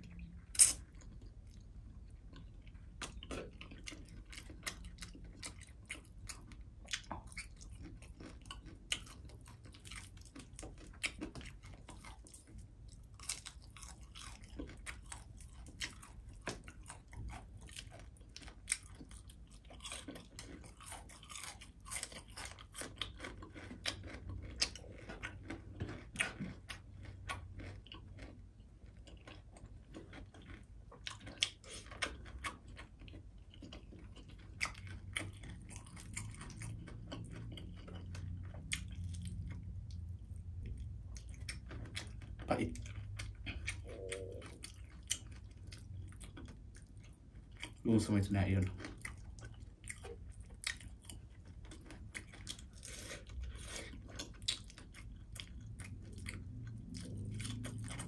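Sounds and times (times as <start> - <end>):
chewing crispy fried fish: 0.0 - 58.0.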